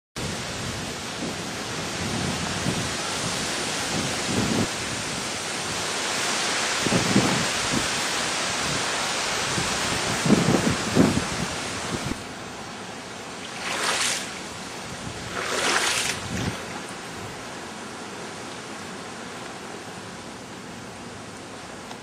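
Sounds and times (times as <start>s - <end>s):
rumbling wind gusts: 0.2s - 19.3s
heavy rain hiss: 0.2s - 22.0s.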